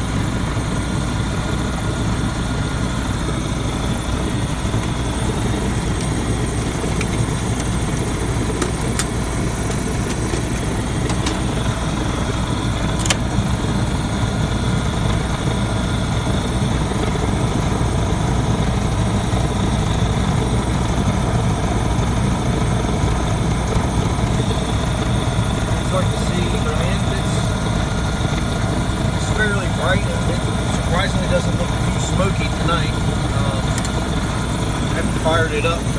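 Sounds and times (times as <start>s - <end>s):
furnace burner roaring: 0.0s - 35.9s.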